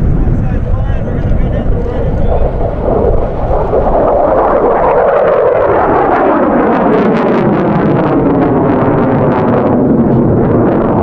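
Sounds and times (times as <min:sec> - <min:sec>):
fighter jet roaring past: 0:00.0 - 0:11.0.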